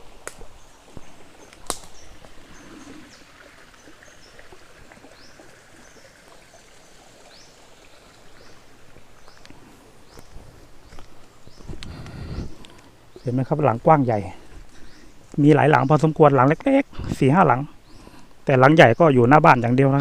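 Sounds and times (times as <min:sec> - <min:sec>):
canal water flowing: 0:00.0 - 0:18.6.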